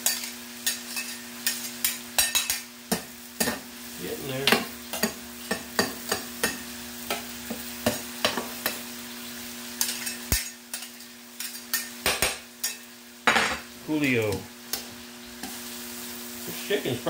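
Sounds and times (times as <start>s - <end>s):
food frying sizzle: 0.0s - 17.0s.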